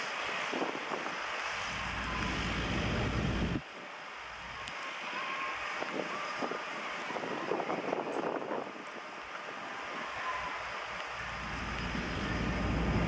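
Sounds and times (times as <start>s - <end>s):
distant turboprop engine hiss: 0.0s - 13.0s
wind rumble on microphone: 0.0s - 13.0s.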